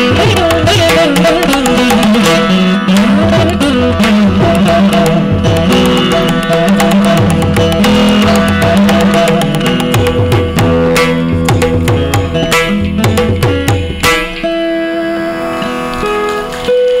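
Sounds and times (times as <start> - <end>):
mridangam drum strokes: 0.0 - 17.0
plucked veena notes: 0.0 - 17.0.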